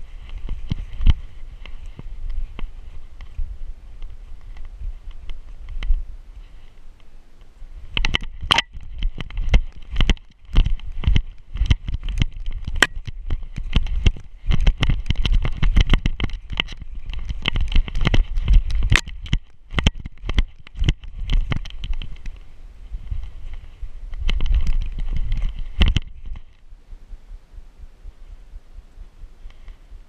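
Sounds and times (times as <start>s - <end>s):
microphone handling rumble: 0.0s - 30.0s.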